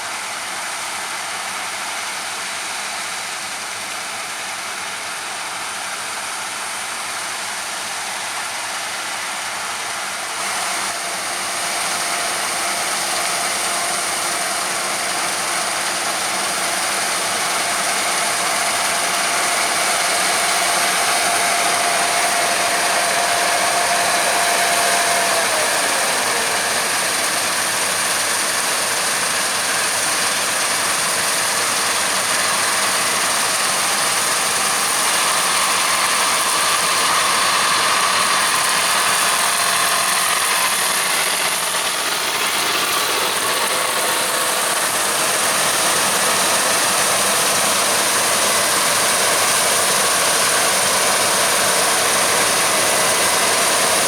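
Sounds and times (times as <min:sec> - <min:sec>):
combine harvester engine and machinery: 0:00.0 - 0:54.0.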